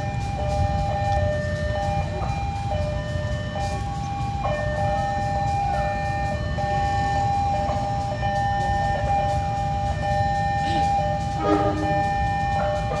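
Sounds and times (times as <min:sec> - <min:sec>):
locomotive engine rumbling: 0:00.0 - 0:13.0.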